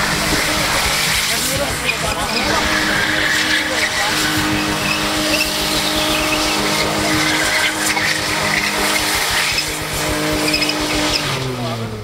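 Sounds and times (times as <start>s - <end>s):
car engine running hard: 0.0s - 12.0s
tyres skidding and squealing: 0.0s - 12.0s.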